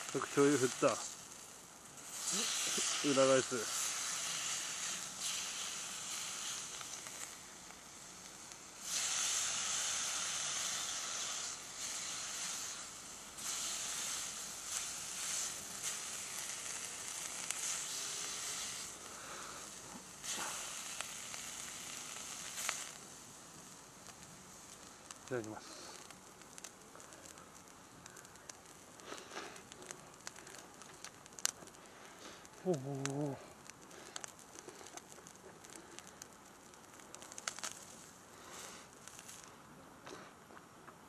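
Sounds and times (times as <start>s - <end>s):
beef sizzling on griddle: 0.0s - 39.5s.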